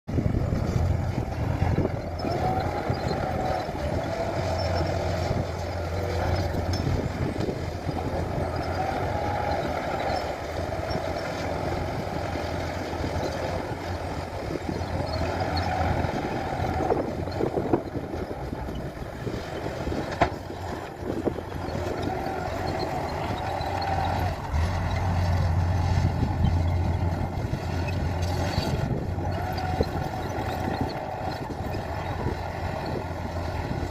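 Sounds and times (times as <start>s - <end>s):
bulldozer diesel engine under load: 0.1s - 33.9s.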